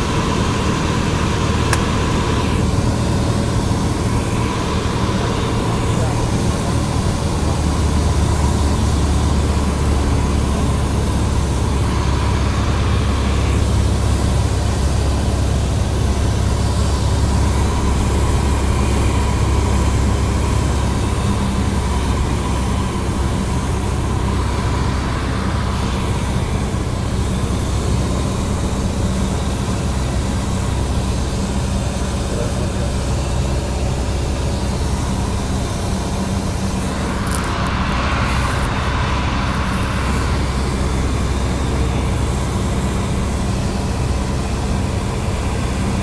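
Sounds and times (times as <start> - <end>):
aircraft engine drone in cabin: 0.0 - 46.0.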